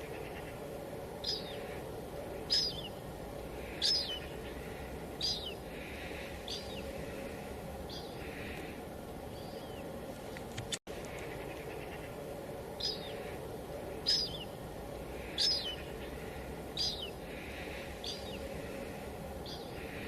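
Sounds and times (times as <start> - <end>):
light drizzle hiss: 0.0 - 20.0.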